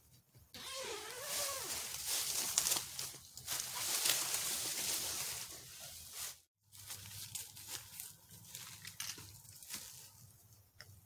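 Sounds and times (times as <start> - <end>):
fabric rustling: 0.9 - 10.3
footsteps in dry leaves: 0.9 - 10.3.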